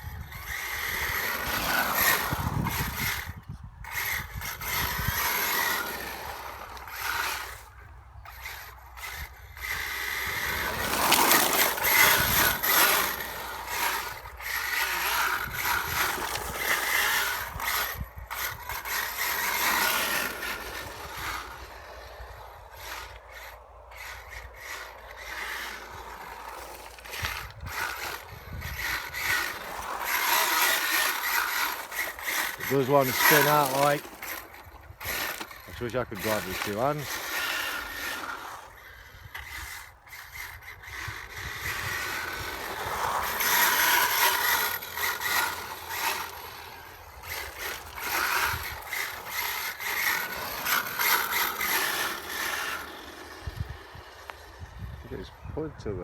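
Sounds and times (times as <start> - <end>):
electric rc car motor: 0.0 - 56.0
tyres on wet road: 9.0 - 54.6.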